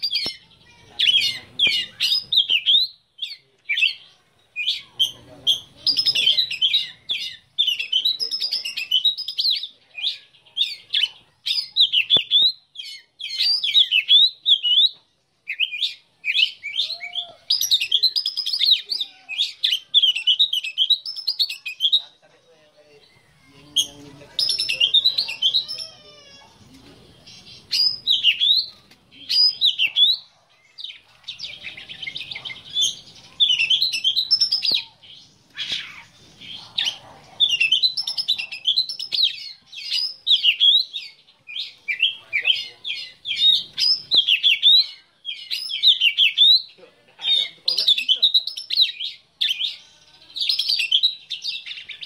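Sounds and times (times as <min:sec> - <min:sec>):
bird singing whistled phrases: 0:00.0 - 0:22.0, 0:27.2 - 0:46.8, 0:50.4 - 0:52.0.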